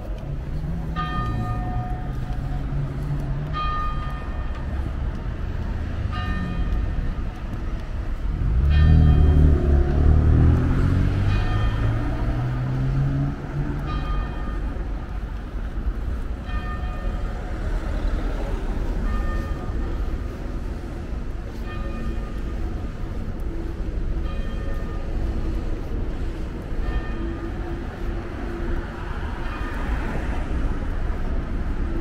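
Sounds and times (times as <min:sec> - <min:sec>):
city traffic rumble: 0:00.0 - 0:32.0.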